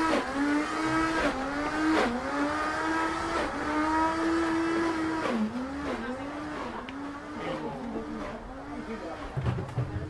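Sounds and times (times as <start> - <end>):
electric blender motor: 0.0 - 9.4.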